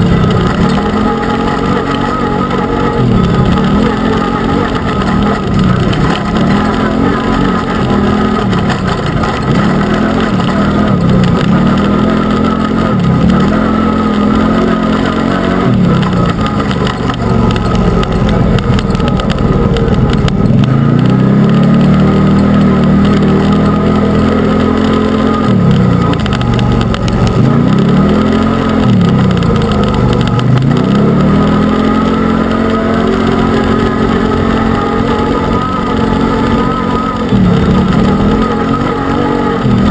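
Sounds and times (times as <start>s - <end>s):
utility vehicle engine revving: 0.0s - 39.9s.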